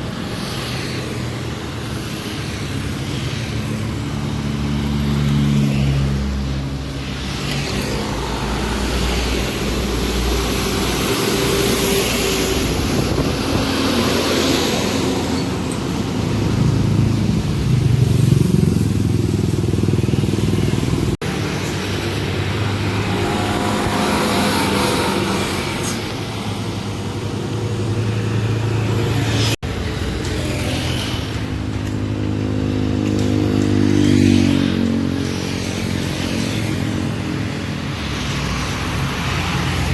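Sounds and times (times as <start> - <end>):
road traffic passing: 0.0 - 39.9
truck diesel engines pulling hard: 0.0 - 39.9.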